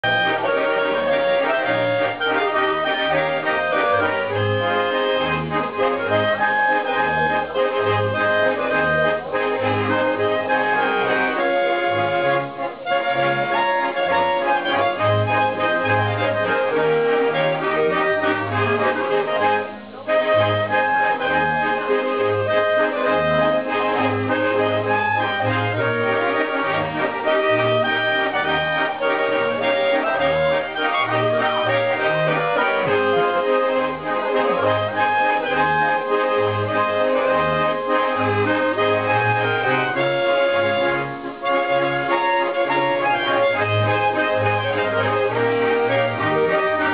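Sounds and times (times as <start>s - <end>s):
accordion: 0.0s - 46.9s
double bass notes: 0.0s - 46.9s.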